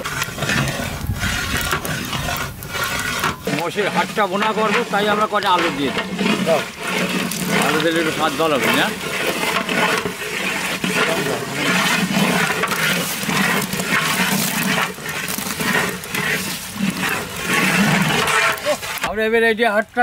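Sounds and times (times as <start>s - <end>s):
liquid sloshing in a metal pot: 0.0s - 19.1s
ladle knocking and scraping: 0.0s - 19.2s.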